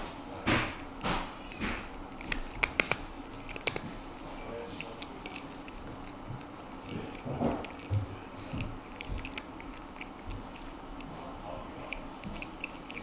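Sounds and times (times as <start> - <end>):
cat chewing: 0.0 - 13.0.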